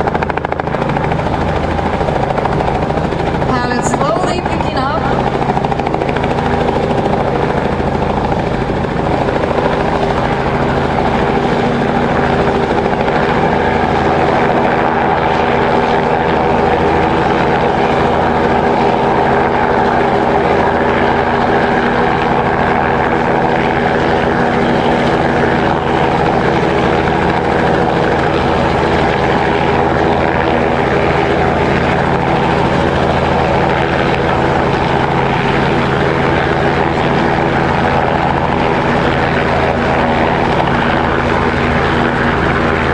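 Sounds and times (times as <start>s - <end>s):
helicopter rotor and engine drone: 0.0s - 42.9s.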